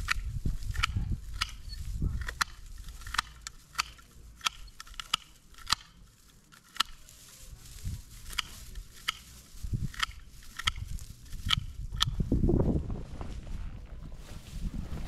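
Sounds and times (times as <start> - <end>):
pruning shears snipping stems: 0.0 - 12.2
foliage rustling: 0.0 - 15.0.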